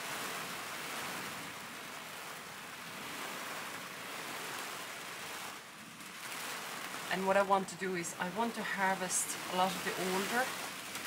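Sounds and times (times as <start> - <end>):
rain and wind on greenhouse roof: 0.0 - 11.0.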